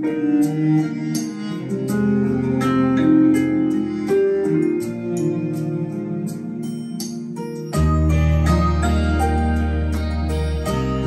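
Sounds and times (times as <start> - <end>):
instrumental music over speakers: 0.0 - 11.0.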